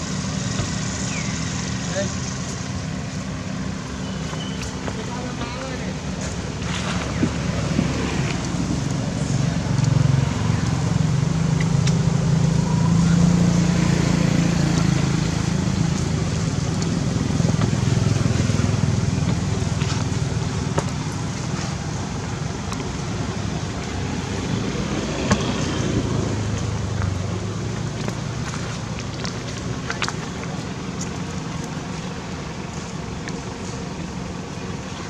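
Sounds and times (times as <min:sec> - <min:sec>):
low motor rumble: 0:00.0 - 0:35.0.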